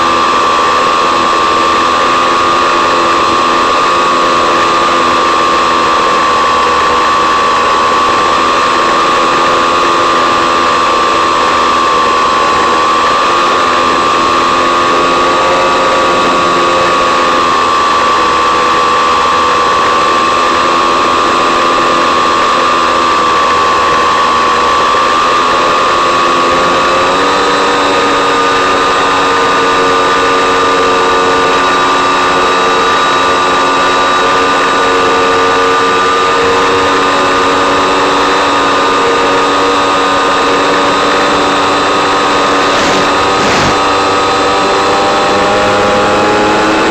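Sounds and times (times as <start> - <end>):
electric motor and propeller whining: 0.0 - 46.9.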